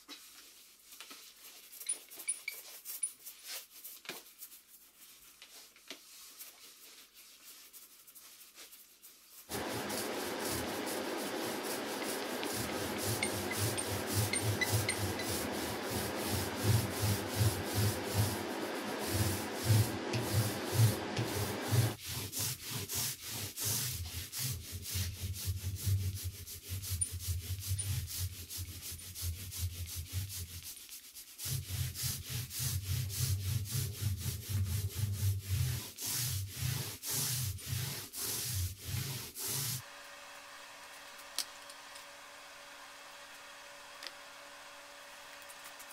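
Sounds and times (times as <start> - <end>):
foam roller rubbing on plywood: 2.7 - 39.8.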